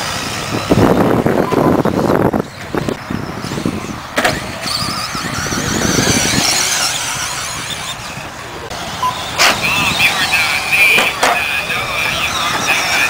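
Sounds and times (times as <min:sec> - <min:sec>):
high-pitched motor whine: 0:00.0 - 0:13.0.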